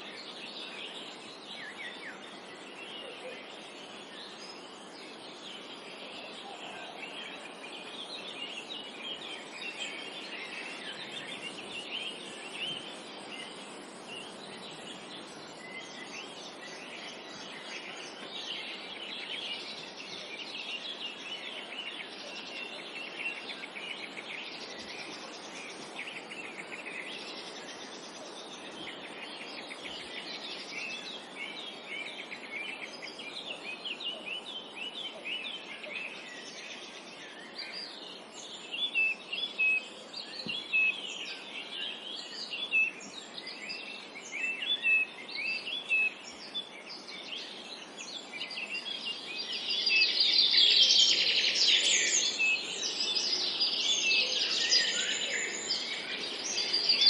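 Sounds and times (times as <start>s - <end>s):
birds chirping and singing: 0.2s - 57.0s.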